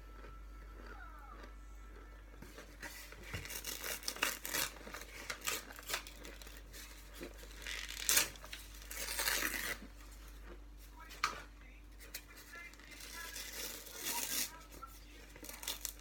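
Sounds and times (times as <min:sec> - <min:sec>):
cornstarch crunching: 0:00.0 - 0:11.2, 0:12.1 - 0:16.0.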